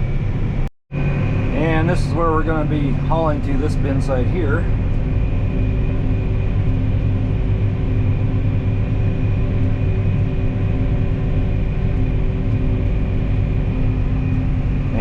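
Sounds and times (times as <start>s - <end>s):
vehicle engine drone: 0.0s - 15.0s
faint high whine: 1.0s - 15.0s.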